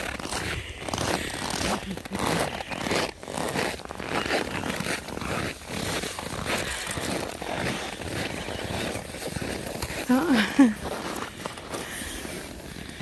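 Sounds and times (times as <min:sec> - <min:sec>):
crunching in snow: 0:00.0 - 0:13.0.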